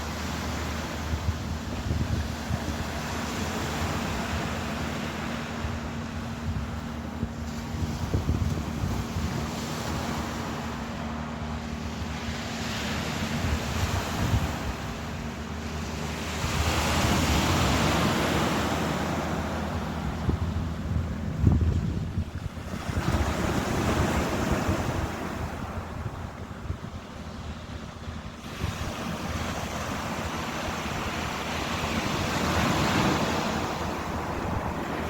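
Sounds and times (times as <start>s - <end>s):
ocean waves washing: 0.0s - 35.0s
wind buffeting microphone: 0.0s - 35.0s.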